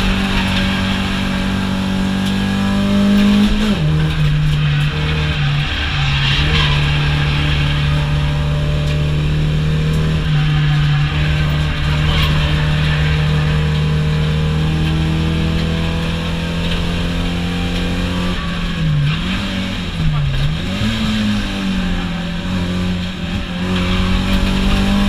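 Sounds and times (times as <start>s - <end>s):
car engine under load: 0.0s - 25.0s.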